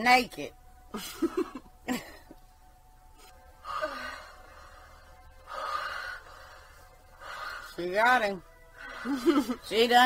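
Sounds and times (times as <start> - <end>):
faint background music: 0.0 - 10.0.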